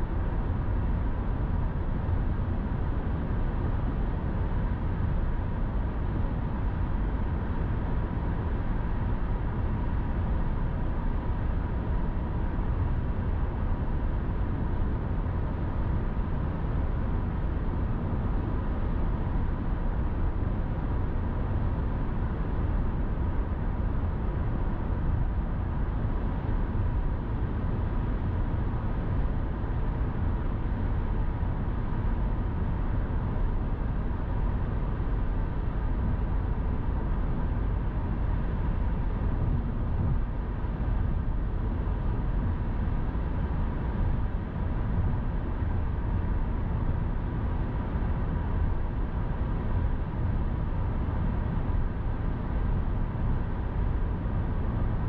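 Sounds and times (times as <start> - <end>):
faint steady whine: 0.0 - 55.0.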